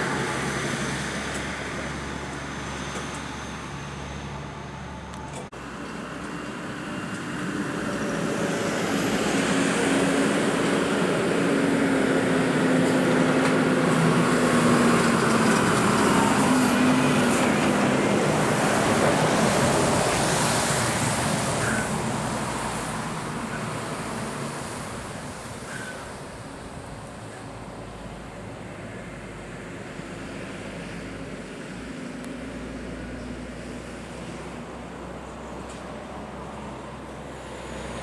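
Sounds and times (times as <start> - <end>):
diesel truck climbing a hill: 0.0 - 38.0.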